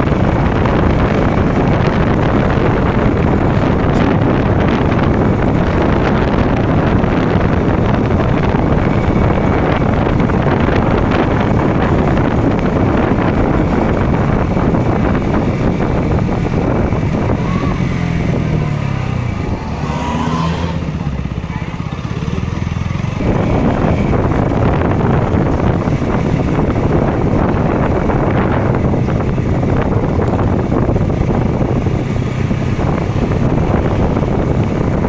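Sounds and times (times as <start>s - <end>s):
motorcycle engine at speed: 0.0s - 35.0s
wind rushing over microphone: 0.0s - 35.0s.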